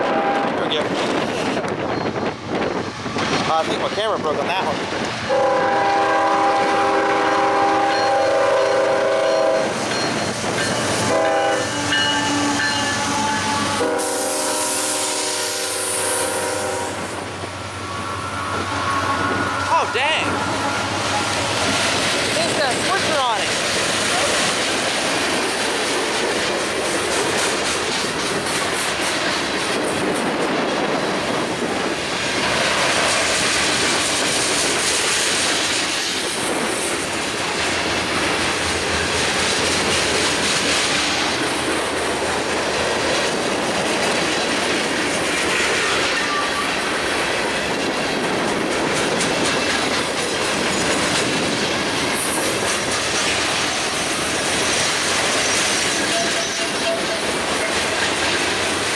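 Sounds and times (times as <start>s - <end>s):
train wheels clacking on rails: 0.0s - 15.1s, 15.8s - 58.9s.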